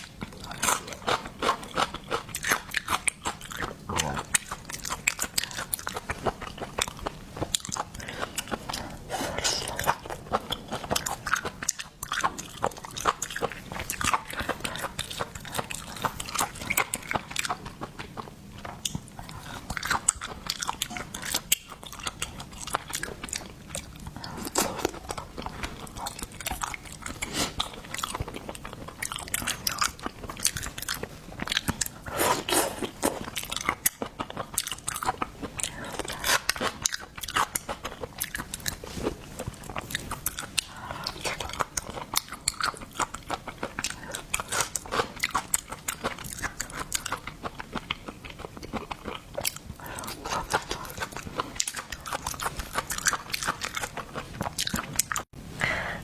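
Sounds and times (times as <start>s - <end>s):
person chewing crunchy food: 0.0s - 55.4s.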